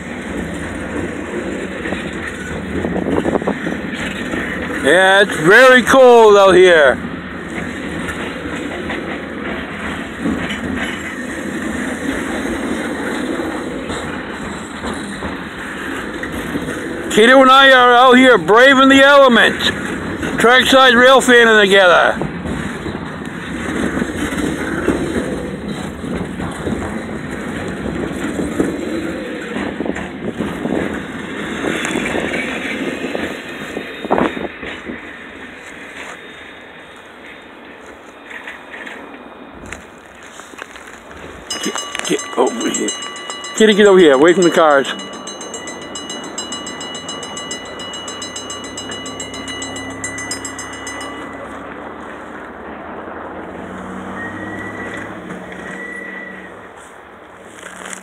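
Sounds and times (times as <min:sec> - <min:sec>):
train rumble: 0:00.0 - 0:36.0, 0:37.2 - 0:53.8
steel wheels on rails: 0:00.0 - 0:56.9.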